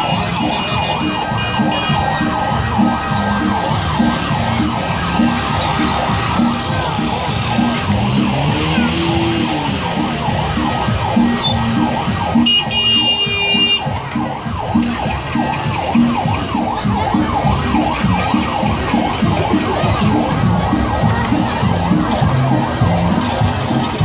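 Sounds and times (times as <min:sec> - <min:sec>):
sirens wailing and yelping: 0:00.0 - 0:24.0.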